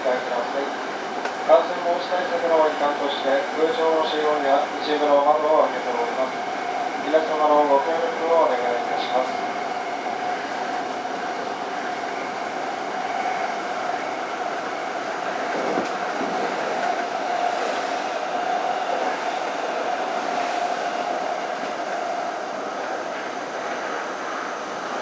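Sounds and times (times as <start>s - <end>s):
oncoming train passing: 0.0s - 25.0s
train wheels rumbling on rail: 0.0s - 25.0s.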